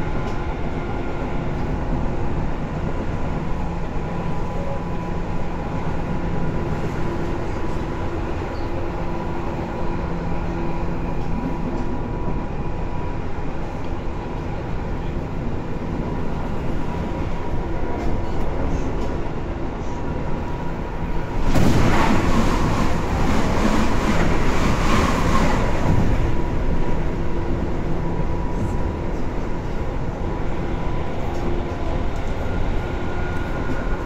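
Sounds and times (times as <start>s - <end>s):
train wheels rumbling: 0.0s - 34.0s.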